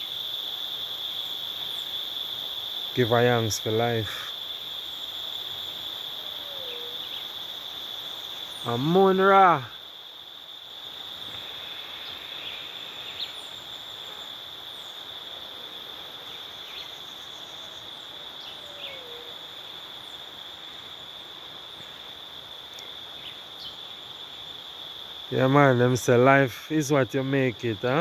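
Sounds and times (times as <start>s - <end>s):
high insect chirps: 0.0s - 28.0s
insects buzzing: 0.0s - 28.0s.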